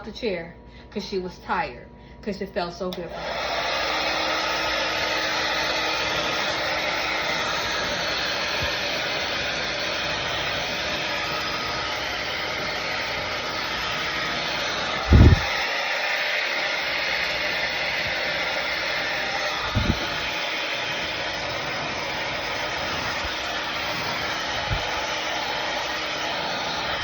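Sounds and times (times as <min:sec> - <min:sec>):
blow dryer blowing: 0:03.0 - 0:27.0.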